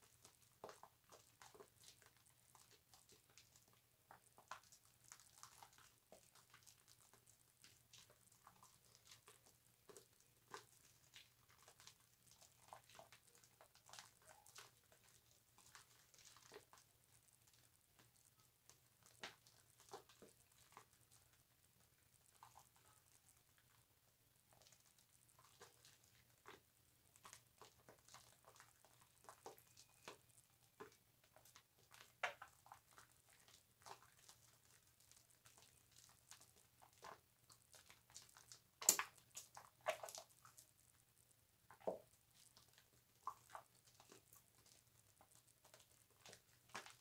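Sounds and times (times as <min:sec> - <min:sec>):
soap being lathered squishing: 0:00.0 - 0:47.0.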